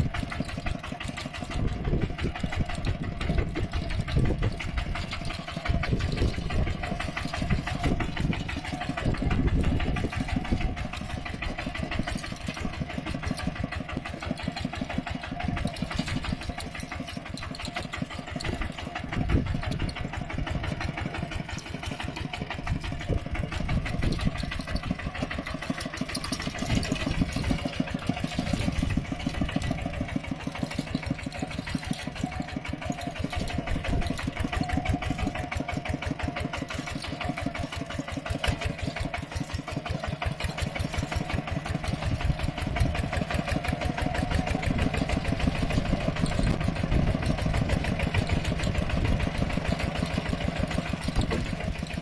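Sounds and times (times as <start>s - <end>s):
tractor engine chugging: 0.0s - 52.0s.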